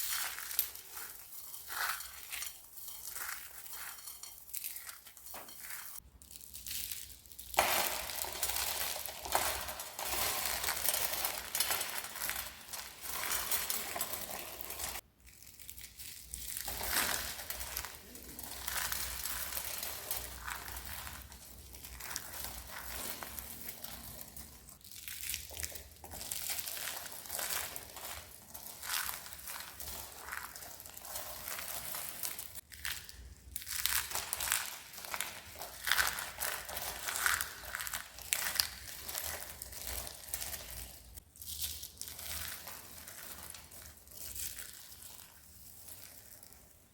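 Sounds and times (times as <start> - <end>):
dry soap crunching: 0.0 - 46.9.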